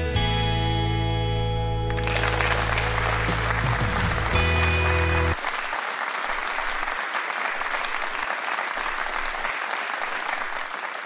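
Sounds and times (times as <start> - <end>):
audience applause: 1.9 - 11.0.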